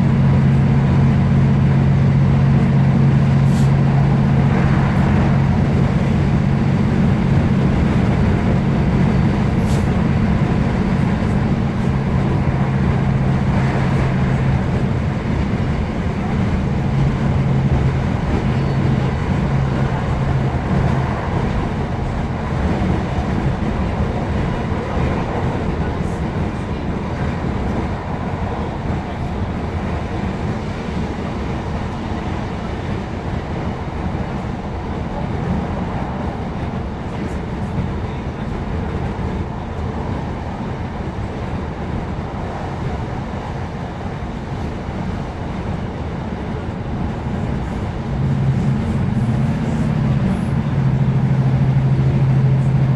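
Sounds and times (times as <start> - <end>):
diesel engine: 0.0 - 52.9
train wheels rumbling on rail: 0.0 - 52.9.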